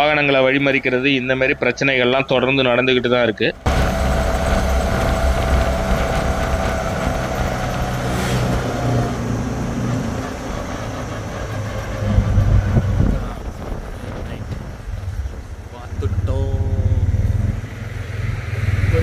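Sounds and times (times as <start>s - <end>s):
auto-rickshaw engine running: 0.0s - 19.0s
thin steady whine: 0.0s - 19.0s
low rumble: 0.7s - 19.0s.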